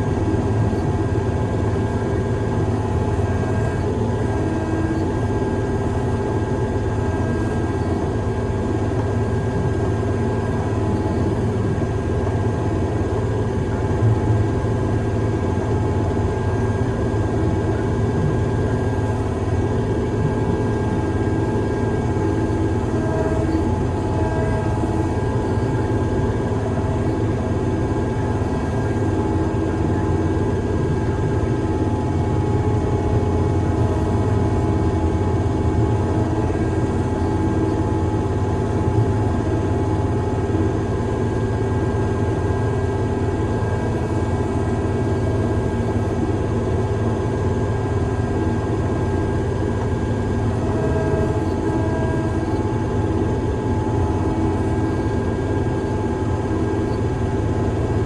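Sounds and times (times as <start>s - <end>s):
diesel engine drone: 0.0s - 58.0s
steady whine: 0.0s - 58.0s.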